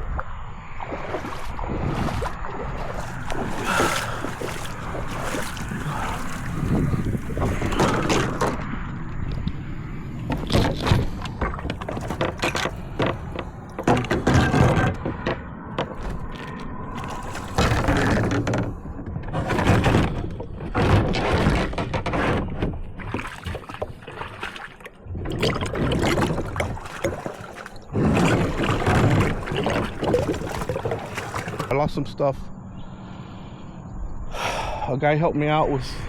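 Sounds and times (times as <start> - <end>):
water splashing and sloshing: 0.0 - 33.2.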